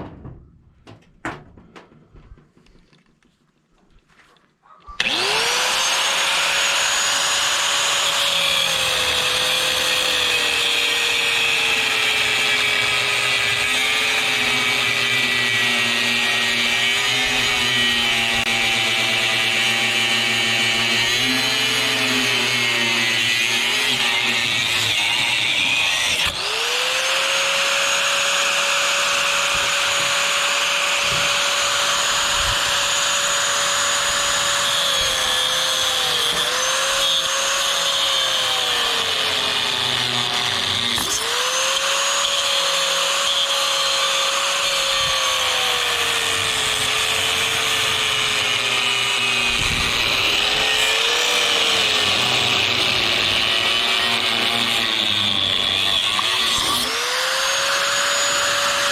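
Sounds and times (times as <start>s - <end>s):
angle grinder cutting: 5.0s - 58.9s.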